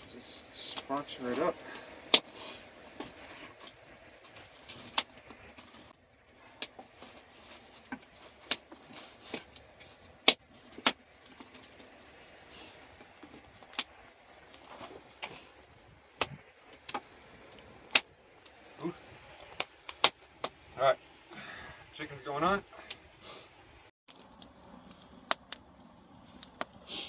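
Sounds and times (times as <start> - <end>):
campfire crackling and popping: 0.0 - 22.0, 22.6 - 27.0.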